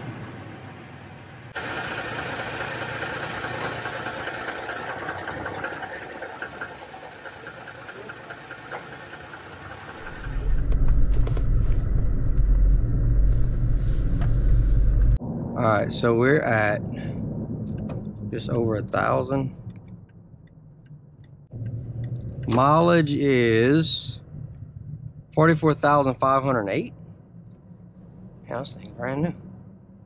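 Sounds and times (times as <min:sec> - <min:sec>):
steady mechanical noise: 0:00.0 - 0:15.2, 0:17.2 - 0:30.0
loud low vehicle rumble: 0:00.0 - 0:30.0.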